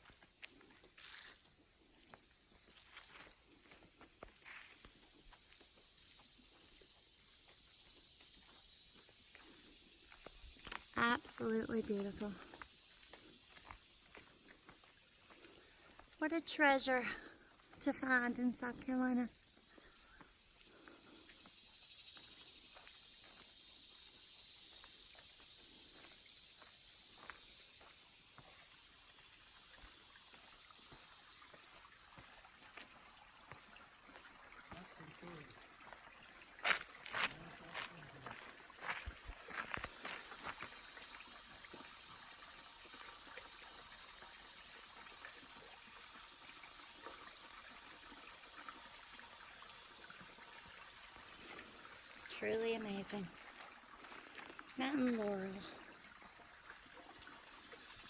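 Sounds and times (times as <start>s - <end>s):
insects buzzing: 0.0s - 58.0s
running water: 0.0s - 58.0s.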